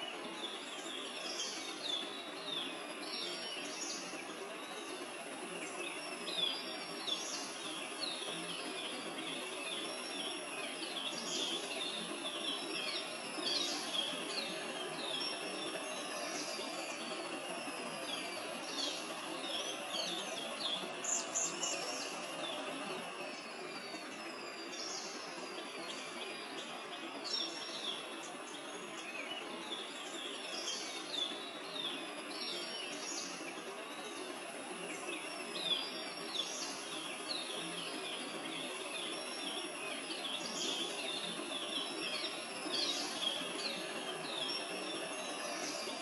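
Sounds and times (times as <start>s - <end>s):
steady outdoor hiss: 0.0s - 46.0s
wild birds chirping: 0.0s - 46.0s.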